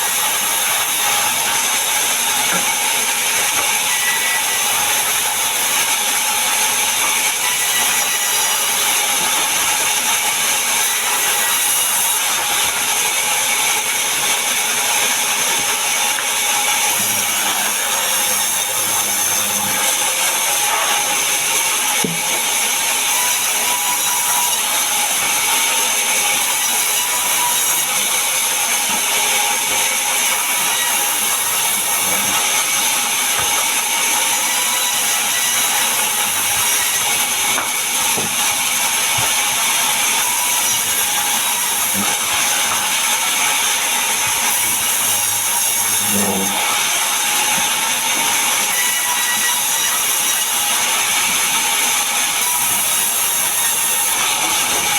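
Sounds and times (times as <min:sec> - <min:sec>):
power saw cutting wood: 0:00.0 - 0:54.9.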